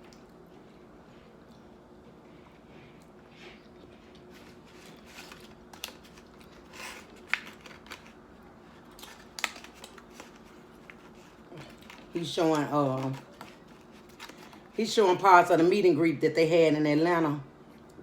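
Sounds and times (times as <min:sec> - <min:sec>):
faint background hum: 0:00.0 - 0:18.0.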